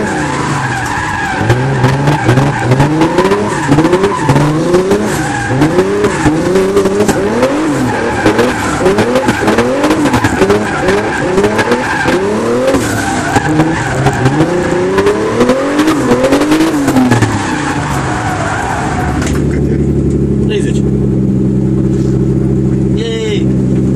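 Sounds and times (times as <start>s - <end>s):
tyres squealing: 0.0s - 19.6s
car engine revving: 0.0s - 23.9s.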